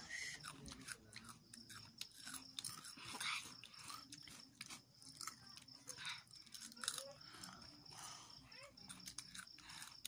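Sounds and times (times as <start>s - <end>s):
chips being chewed: 0.0s - 10.0s.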